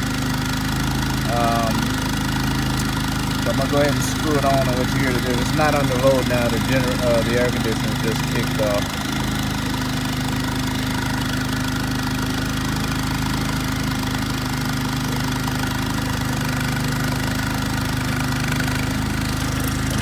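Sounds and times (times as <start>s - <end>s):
generator engine hum: 0.0s - 20.0s.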